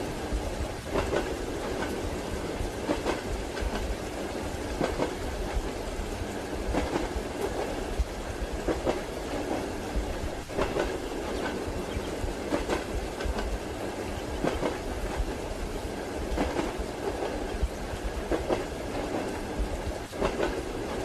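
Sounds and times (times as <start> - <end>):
rumble of moving train: 0.0 - 21.0
train wheels clacking on rail joints: 0.0 - 21.0.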